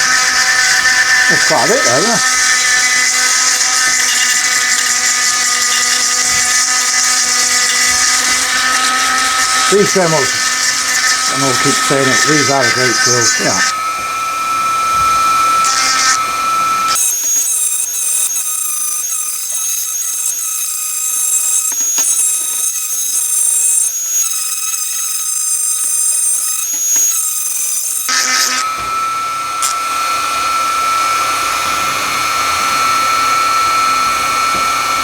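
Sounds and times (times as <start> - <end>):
rotary tool grinding metal: 0.0 - 35.0.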